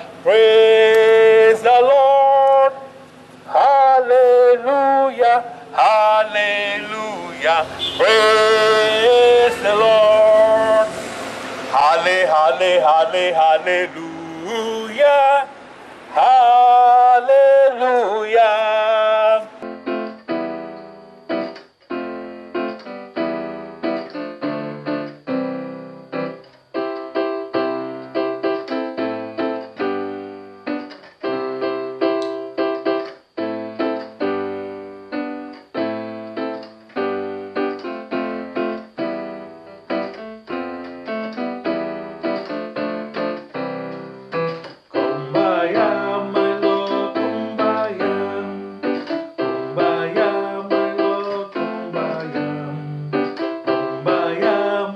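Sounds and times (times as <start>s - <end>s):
keyboard playing piano chords: 0.0s - 54.9s.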